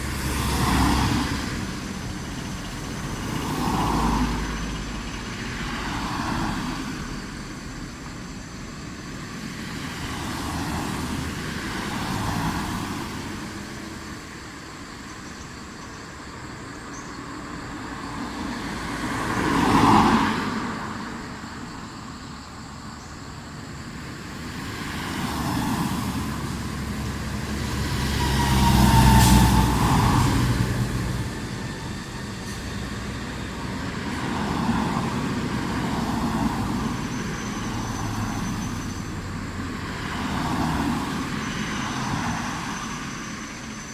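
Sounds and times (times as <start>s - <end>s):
vehicles passing on a street: 0.0s - 43.9s.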